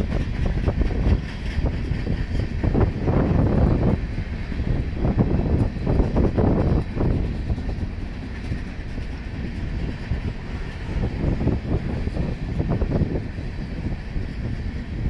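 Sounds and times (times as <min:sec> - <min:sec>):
train cars rumbling: 0:00.0 - 0:15.0
wheels clacking over rail joints: 0:00.0 - 0:15.0.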